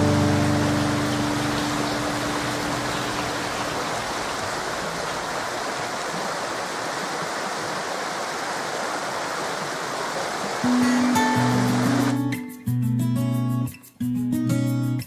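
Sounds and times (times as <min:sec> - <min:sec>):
flowing water rushing: 0:00.0 - 0:12.2.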